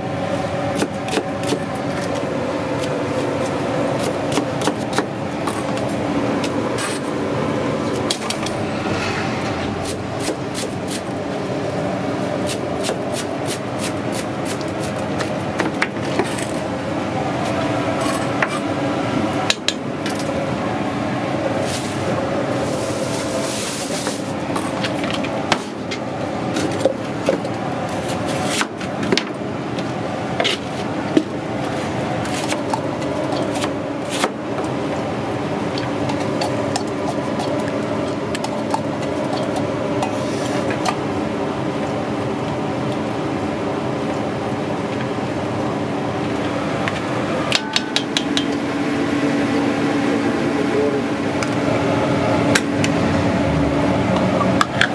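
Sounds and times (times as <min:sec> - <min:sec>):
steady background noise: 0:00.0 - 0:54.9.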